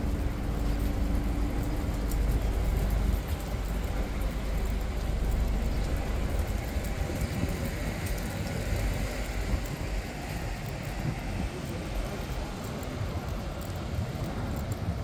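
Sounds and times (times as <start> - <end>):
city street noise: 0.0 - 15.0
pram wheels rolling on paving: 0.0 - 15.0.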